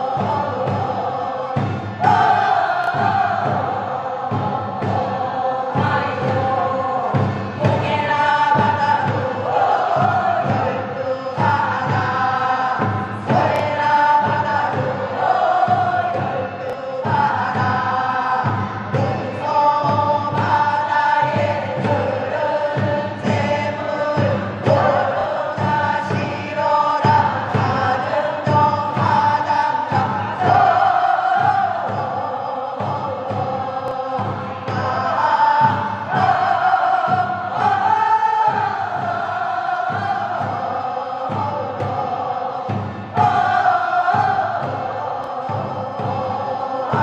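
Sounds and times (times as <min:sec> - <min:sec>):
barrel drum beats: 0:00.0 - 0:47.0
chorus singing work song: 0:00.0 - 0:47.0.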